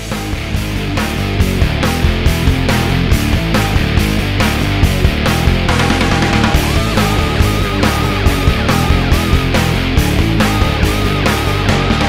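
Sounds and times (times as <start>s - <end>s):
rock music: 0.0s - 12.0s
steady drum beat: 0.0s - 12.0s.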